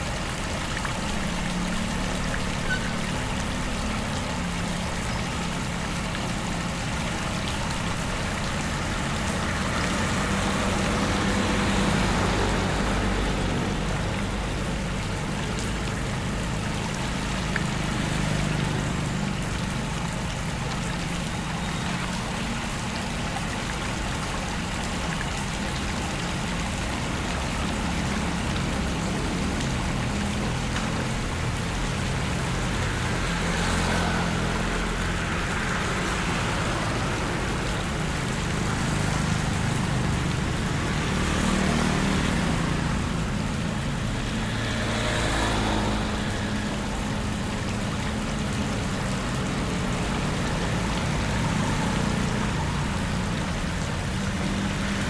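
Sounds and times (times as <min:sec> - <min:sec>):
rush of water: 0:00.0 - 0:55.0
splashing: 0:00.0 - 0:55.0
vehicle engine rumble: 0:00.0 - 0:55.0.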